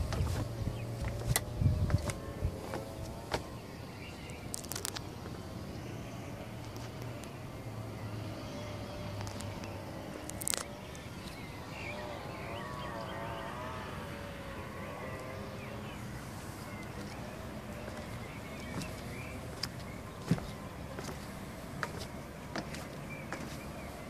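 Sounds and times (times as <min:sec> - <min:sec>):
distant traffic hum: 0:00.0 - 0:24.0.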